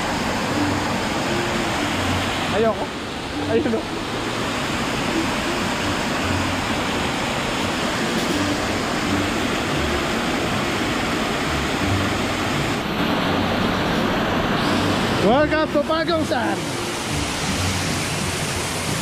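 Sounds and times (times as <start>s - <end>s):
waterfall rushing onto rocks: 0.0s - 19.0s.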